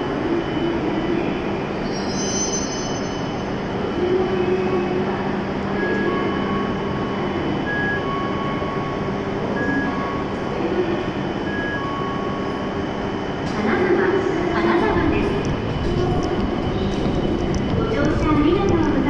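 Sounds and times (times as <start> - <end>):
stopped train humming: 0.0 - 19.0.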